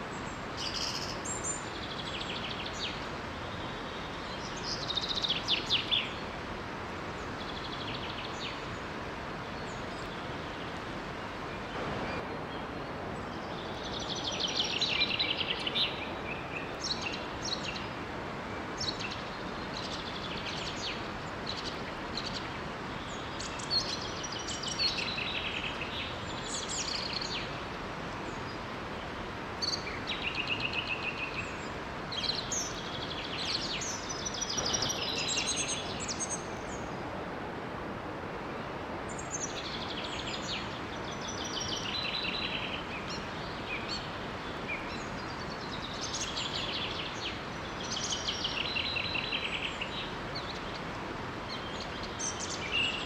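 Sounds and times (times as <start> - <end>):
small waterfall rushing: 0.0 - 53.0
songbirds chirping and trilling: 0.0 - 53.0.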